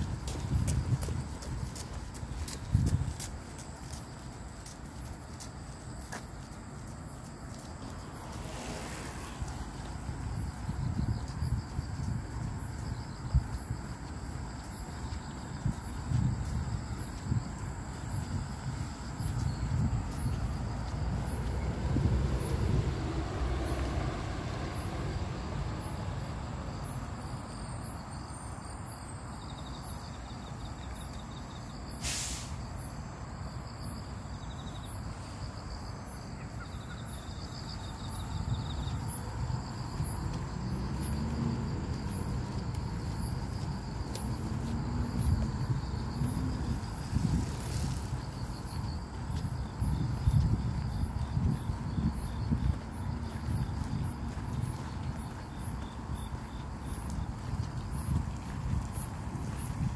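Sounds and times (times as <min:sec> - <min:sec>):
insects chirping and trilling: 0:00.0 - 0:59.9.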